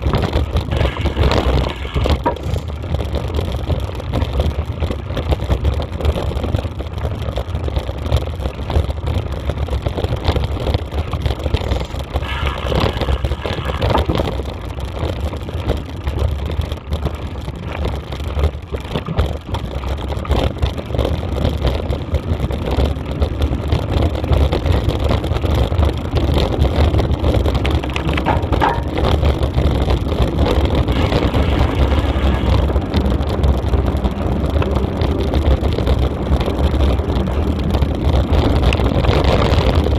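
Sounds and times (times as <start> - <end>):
low rumble: 0.0 - 39.9
wind buffeting microphone: 0.0 - 39.9.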